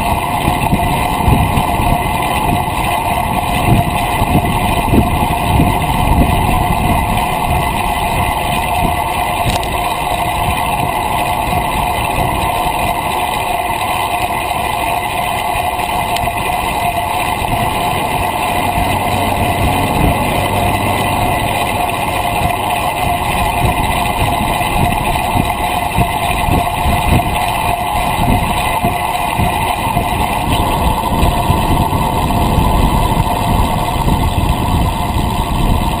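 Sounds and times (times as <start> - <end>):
bicycle tyre humming on asphalt: 0.0 - 36.0
wind buffeting microphone: 0.0 - 36.0.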